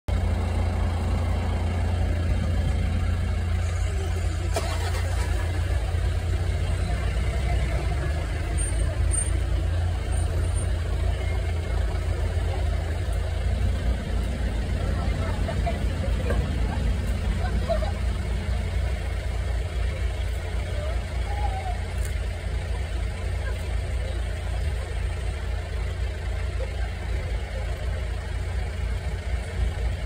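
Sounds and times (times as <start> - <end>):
vehicle engine idling: 0.1 - 30.0.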